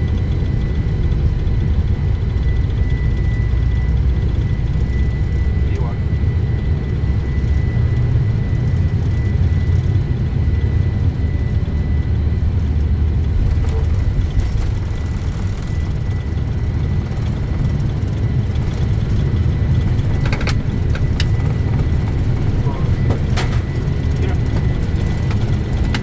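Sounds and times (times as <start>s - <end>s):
airplane engines rumbling: 0.0s - 26.0s.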